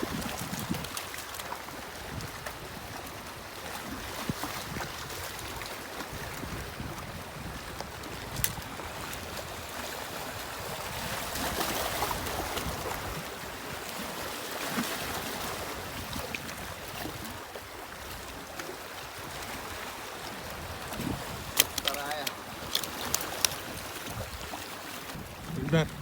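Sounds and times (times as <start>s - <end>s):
sea waves washing on shore: 0.0s - 26.0s.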